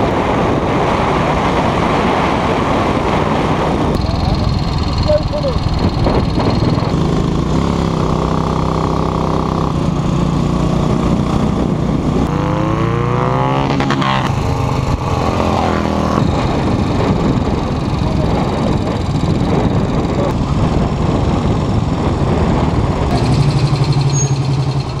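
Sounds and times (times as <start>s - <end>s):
racing motorcycle engines: 0.0s - 25.0s
motorcycle engine revving up: 0.1s - 25.0s.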